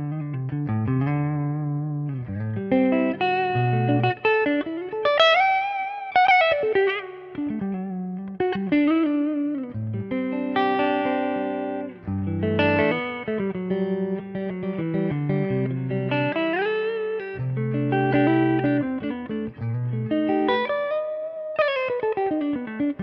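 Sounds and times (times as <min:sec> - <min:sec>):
electric guitar lead playing: 0:00.0 - 0:23.0.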